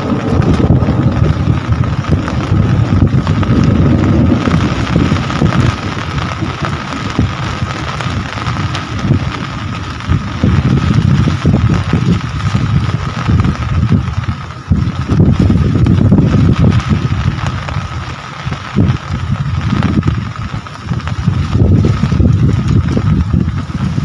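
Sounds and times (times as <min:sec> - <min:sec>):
heavy rain falling: 0:00.0 - 0:24.0
low rumble: 0:00.0 - 0:24.0.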